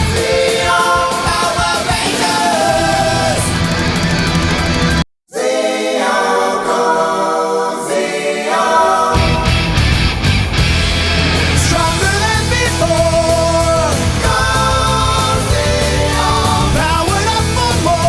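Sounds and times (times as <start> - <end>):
rock song with vocals: 0.0 - 7.2, 8.5 - 18.0.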